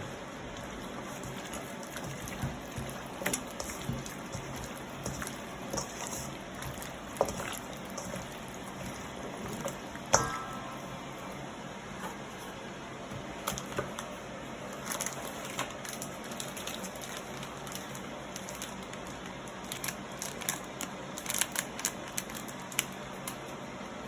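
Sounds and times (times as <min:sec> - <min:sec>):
wet clicks and crackles of mixing: 0:00.0 - 0:11.3, 0:13.1 - 0:23.6.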